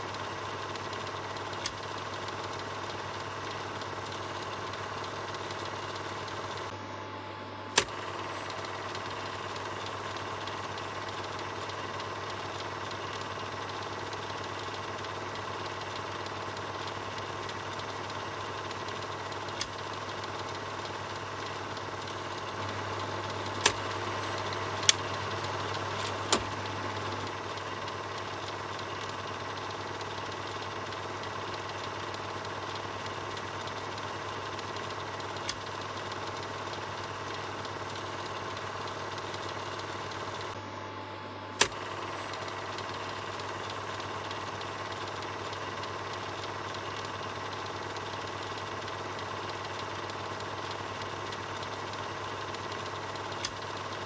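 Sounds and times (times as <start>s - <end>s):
sharp clicks: 0.0s - 6.7s, 7.7s - 40.6s, 41.6s - 54.0s
film projector whirring: 0.0s - 54.0s.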